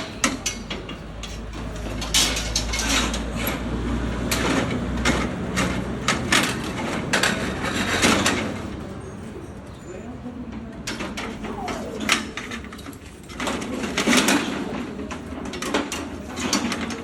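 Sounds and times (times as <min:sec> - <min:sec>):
metallic clanks on roller shutter: 0:00.0 - 0:09.9, 0:10.5 - 0:17.0.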